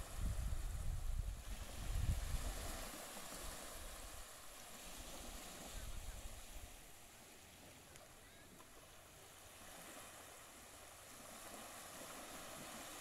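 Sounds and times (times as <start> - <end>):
gentle waves lapping on shore: 0.0 - 13.0.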